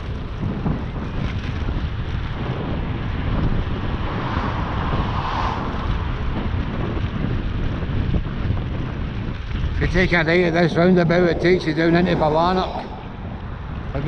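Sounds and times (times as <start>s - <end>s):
passing motor vehicle: 0.0s - 14.0s
wind rumbling on microphone: 0.0s - 14.0s.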